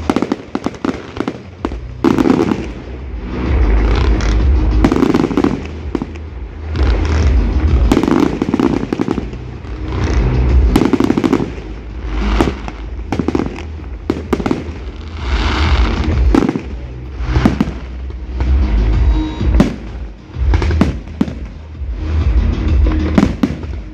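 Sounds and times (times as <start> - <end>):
fireworks booming and bangs: 0.0 - 23.9
fireworks crackle: 0.0 - 23.9.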